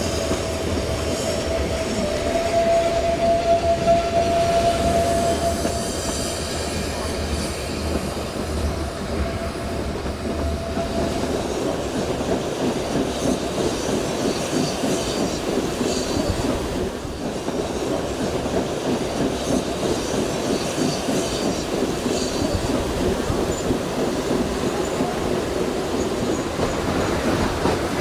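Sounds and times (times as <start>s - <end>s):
train wheels rattling on rails: 0.0s - 28.0s.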